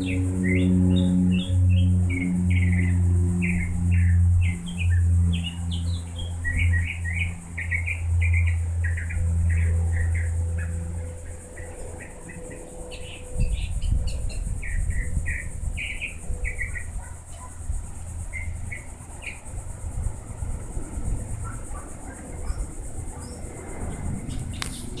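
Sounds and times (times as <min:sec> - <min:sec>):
high-pitched insect drone: 0:00.0 - 0:25.0
low hum: 0:00.0 - 0:25.0
small birds chirping: 0:00.0 - 0:25.0.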